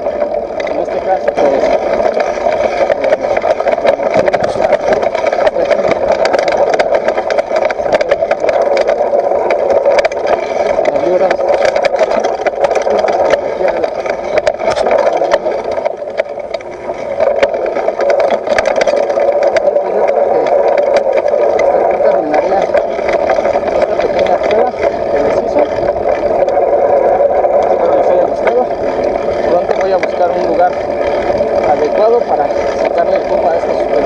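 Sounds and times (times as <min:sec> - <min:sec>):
bike rattling clicks: 0:00.0 - 0:34.0
bike rolling over rough ground: 0:00.0 - 0:34.0.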